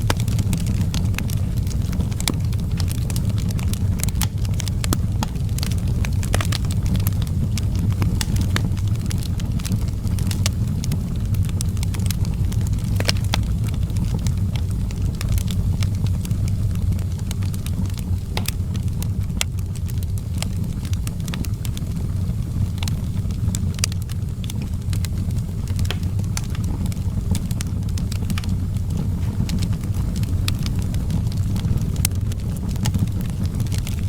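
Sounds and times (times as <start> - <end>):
fire burning: 0.0 - 34.0
fire crackling and popping: 0.0 - 34.0.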